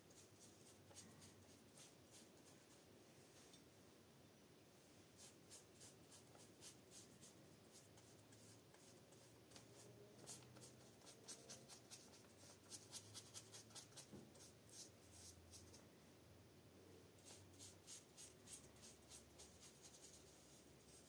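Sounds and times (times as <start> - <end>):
paintbrush strokes on paper: 0.0 - 3.6, 4.9 - 15.8, 17.2 - 21.0.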